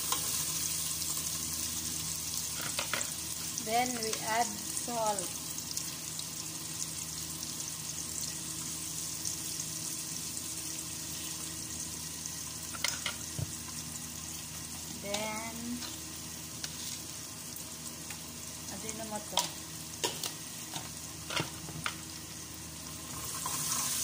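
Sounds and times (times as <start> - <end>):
garlic sizzling in oil: 0.0 - 24.0.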